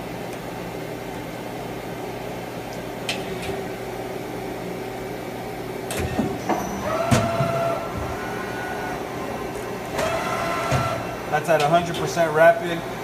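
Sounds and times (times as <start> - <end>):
lathe mechanical hum: 0.0 - 13.0.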